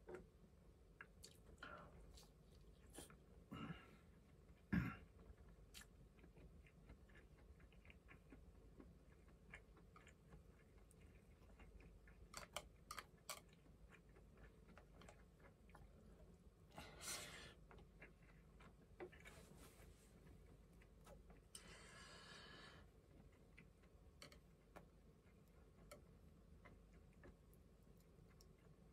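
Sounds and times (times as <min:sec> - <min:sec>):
faint chewing: 0:00.0 - 0:28.9.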